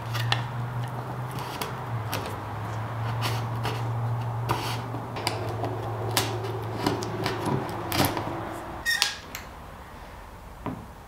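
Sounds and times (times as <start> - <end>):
cables clicking and tapping: 0.0 - 9.5
low hum: 0.0 - 10.6.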